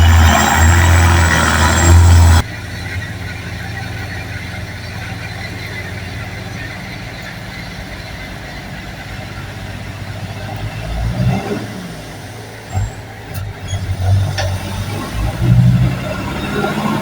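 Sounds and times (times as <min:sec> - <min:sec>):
vehicle motor running: 0:00.0 - 0:17.0.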